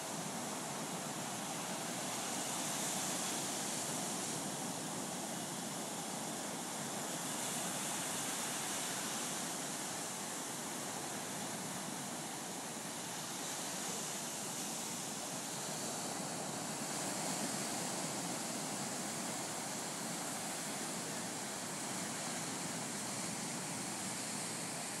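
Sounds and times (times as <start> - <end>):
surf breaking on a beach: 0.0 - 25.0.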